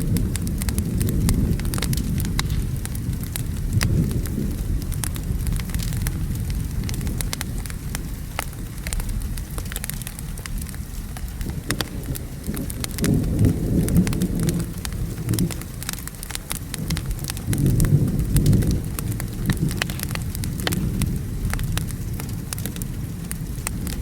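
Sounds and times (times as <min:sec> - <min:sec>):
steady rain: 0:00.0 - 0:24.0
thunder rumbling: 0:00.0 - 0:24.0
wood fire crackling: 0:00.0 - 0:24.0.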